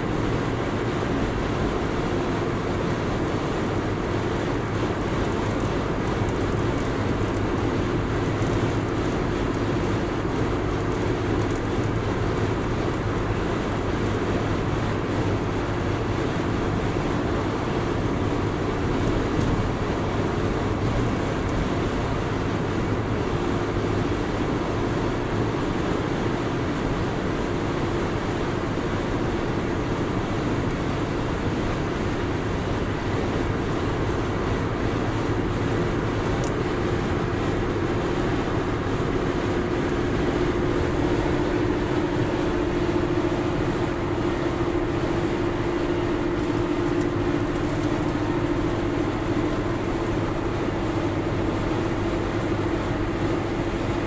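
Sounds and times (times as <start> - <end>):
car road noise on highway: 0.0 - 54.0.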